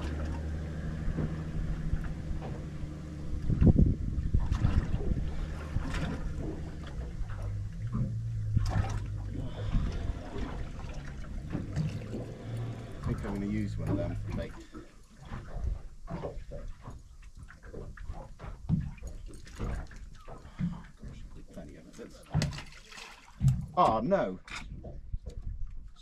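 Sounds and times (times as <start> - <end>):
boat engine idling: 0.0 - 26.0
water washing against hull: 0.0 - 26.0.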